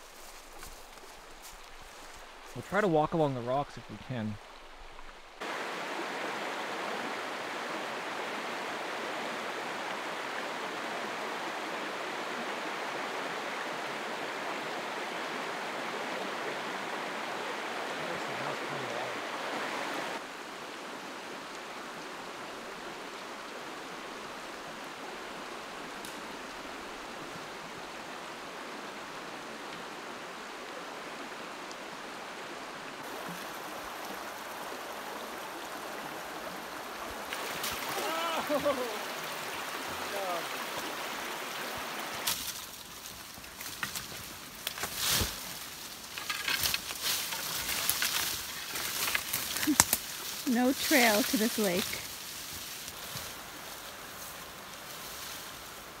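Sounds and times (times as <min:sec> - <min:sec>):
creek water rushing over stones: 0:00.0 - 0:56.0.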